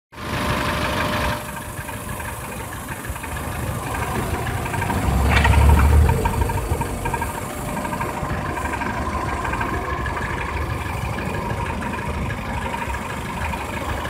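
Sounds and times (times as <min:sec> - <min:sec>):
car engine idling: 0:00.2 - 0:14.0.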